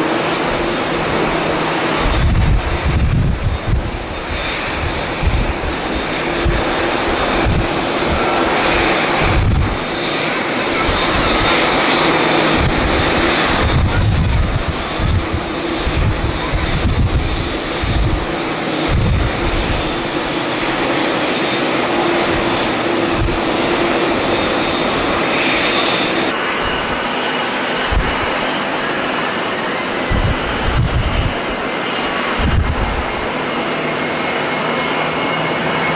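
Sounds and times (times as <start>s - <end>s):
jet engines roaring with whine: 0.0s - 35.9s
wind buffeting microphone: 0.0s - 35.9s.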